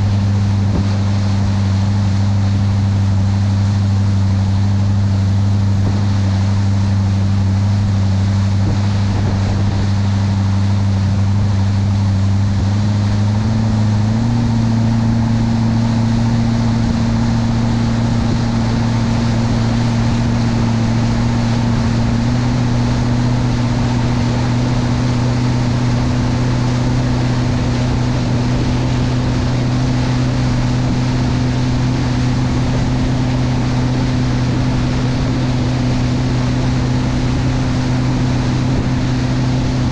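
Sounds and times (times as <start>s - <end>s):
boat engine droning: 0.0s - 39.9s
spray and wind hissing: 0.0s - 39.9s.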